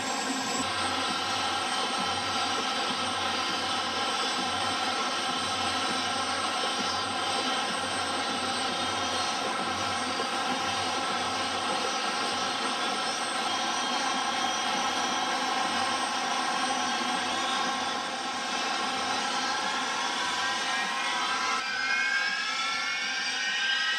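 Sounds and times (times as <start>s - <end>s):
jet engines whining: 0.0s - 23.9s.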